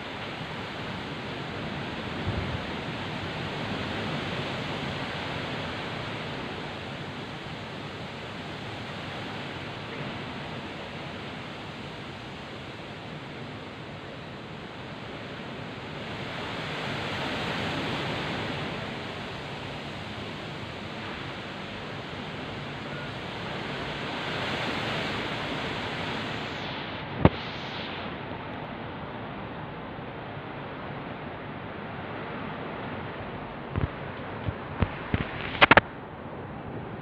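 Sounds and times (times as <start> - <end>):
heavy rain: 0.0 - 37.0
strong wind gusts: 0.0 - 37.0.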